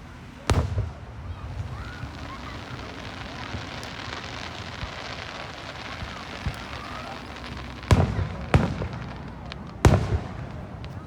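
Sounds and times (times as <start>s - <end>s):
faint fireworks pops: 0.0s - 11.0s
fireworks crackling: 0.0s - 11.0s.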